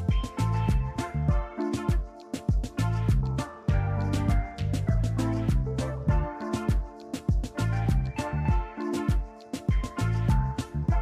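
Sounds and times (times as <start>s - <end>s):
music with drums and bass: 0.0s - 11.0s.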